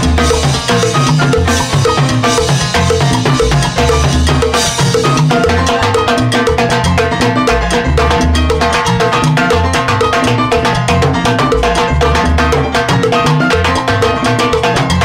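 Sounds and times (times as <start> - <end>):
salsa band playing: 0.0 - 15.0.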